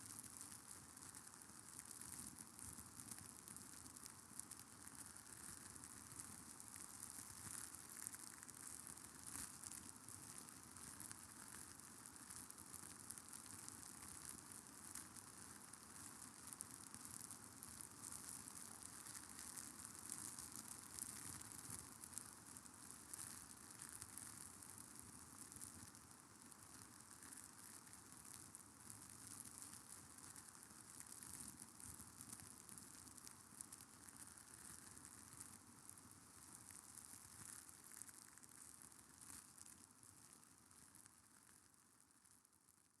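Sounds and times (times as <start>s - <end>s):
faint crackling hiss: 0.0s - 43.0s.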